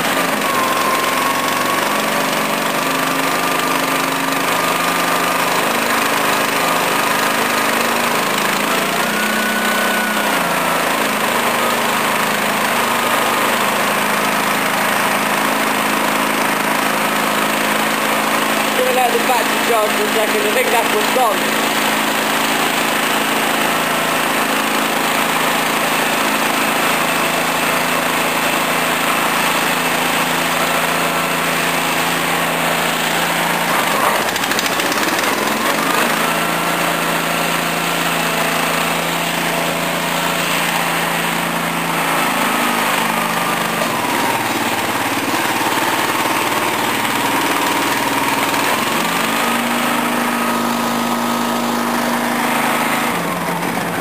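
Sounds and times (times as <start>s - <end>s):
high engine whine: 0.0s - 54.0s
lawn tractor engine running: 0.0s - 54.0s.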